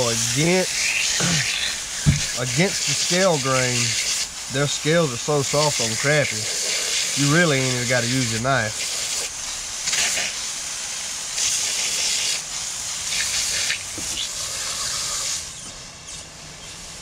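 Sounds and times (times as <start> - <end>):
hose spraying water: 0.0 - 17.0.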